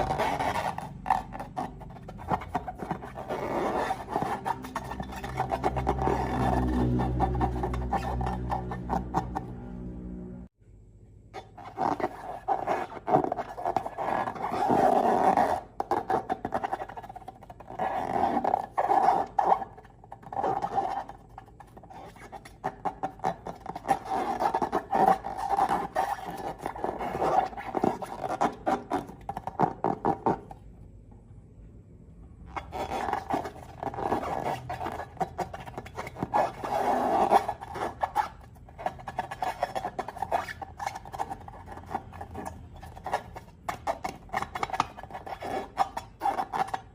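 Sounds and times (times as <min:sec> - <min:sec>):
rubbery squeak: 0:00.0 - 0:09.8, 0:11.4 - 0:30.7, 0:32.4 - 0:46.9.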